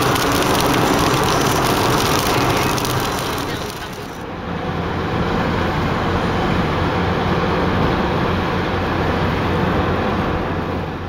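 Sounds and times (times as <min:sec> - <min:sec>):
tyres on wet road: 0:00.0 - 0:10.9.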